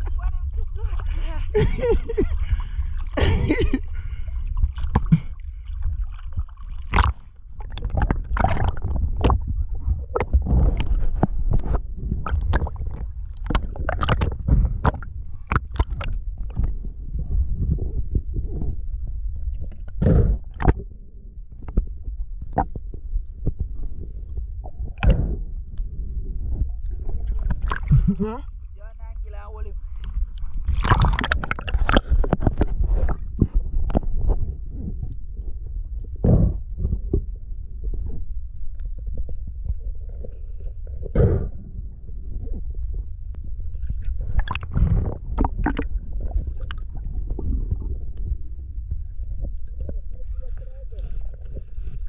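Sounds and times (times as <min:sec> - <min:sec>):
low rumble: 0:00.0 - 0:52.0
water sloshing and gurgling: 0:00.0 - 0:52.0.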